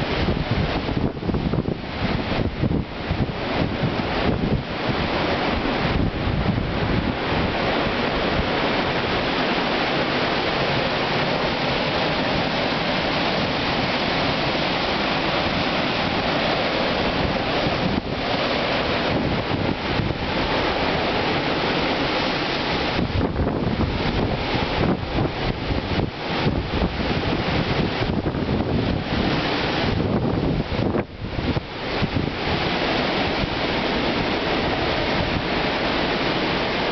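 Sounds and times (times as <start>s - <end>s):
strong wind roaring: 0.0s - 36.9s
wind buffeting the microphone: 0.0s - 36.9s.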